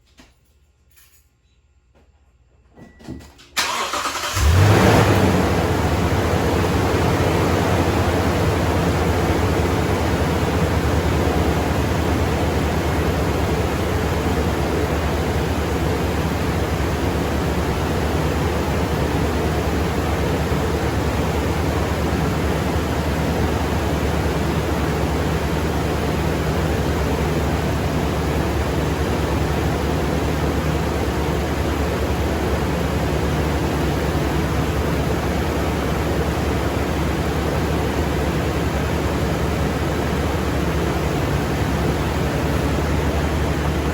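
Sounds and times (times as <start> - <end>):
engine idling: 3.6 - 43.9.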